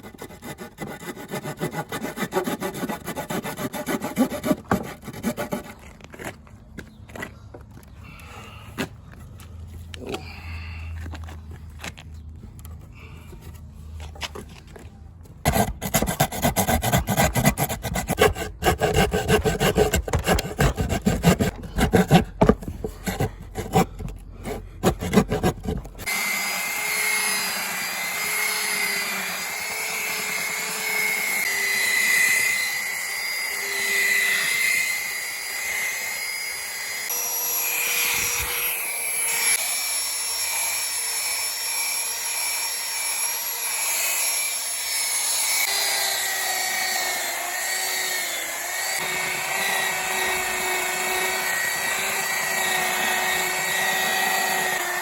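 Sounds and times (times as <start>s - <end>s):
hand saw cutting wood: 0.0s - 6.4s, 15.4s - 55.0s.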